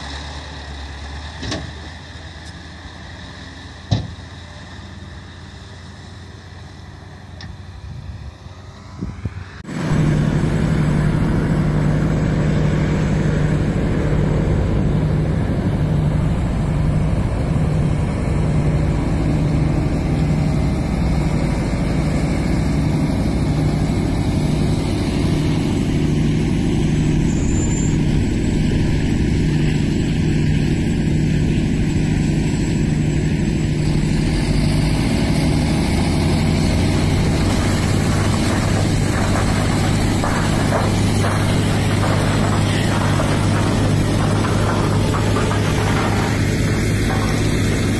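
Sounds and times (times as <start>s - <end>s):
truck diesel engine running: 0.0s - 47.9s.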